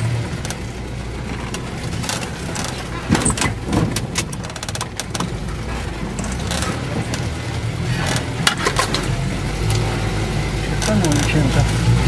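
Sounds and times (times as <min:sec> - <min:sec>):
vehicle body rattling and knocking: 0:00.0 - 0:11.9
vehicle engine running: 0:00.0 - 0:12.0.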